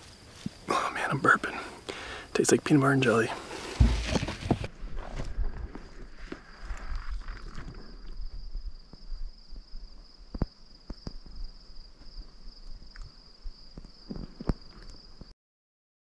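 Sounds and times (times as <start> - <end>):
insects trilling: 0.0 - 4.7, 5.3 - 15.3.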